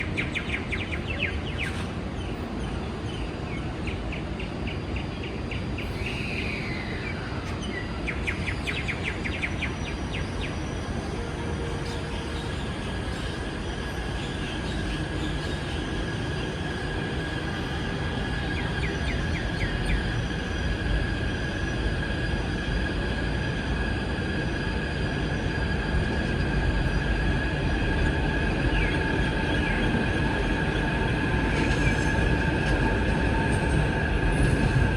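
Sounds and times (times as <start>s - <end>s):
train whine and rumble: 0.0s - 34.9s.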